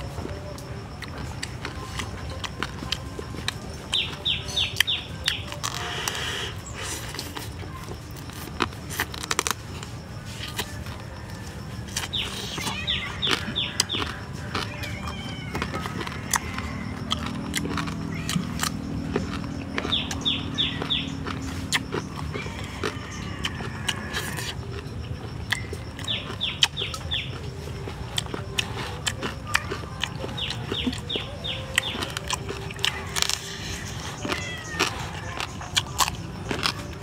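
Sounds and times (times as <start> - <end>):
crunchy chewing: 0.0 - 37.0
bones cracking: 0.4 - 37.0.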